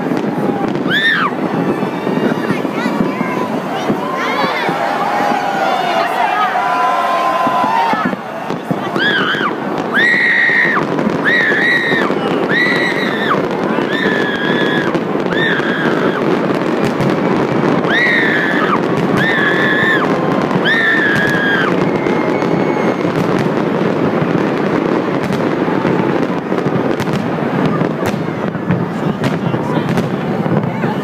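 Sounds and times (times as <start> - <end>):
fireworks crackling and popping: 0.0 - 31.0.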